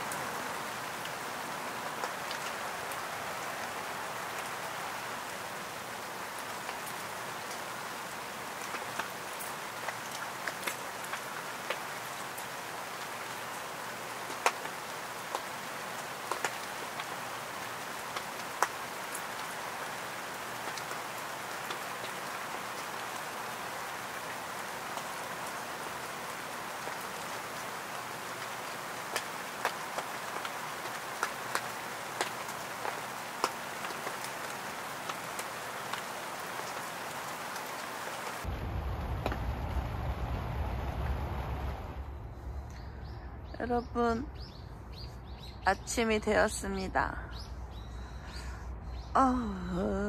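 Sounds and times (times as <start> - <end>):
rain on a tent: 0.0 - 42.2.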